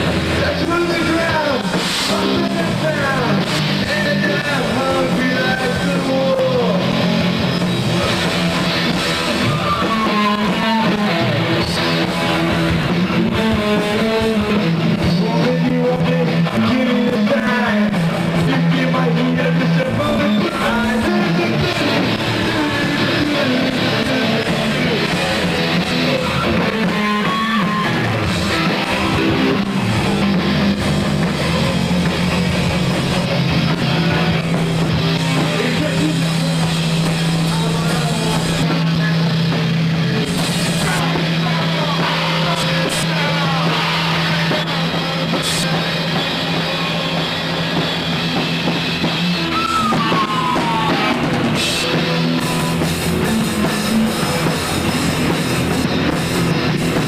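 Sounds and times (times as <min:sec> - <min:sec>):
drum kit: 0:00.0 - 0:57.0
electric guitar: 0:00.0 - 0:57.0
rock band playing live: 0:00.0 - 0:57.0.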